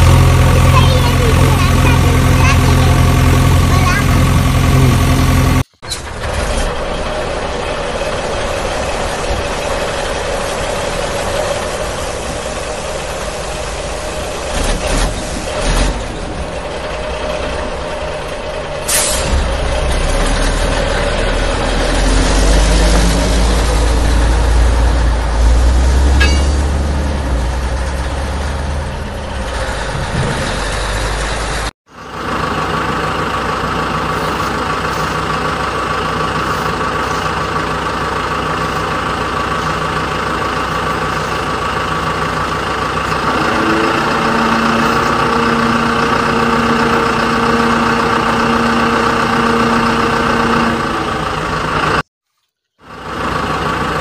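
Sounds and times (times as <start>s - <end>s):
truck-like engine running: 0.0s - 52.1s, 52.8s - 54.0s.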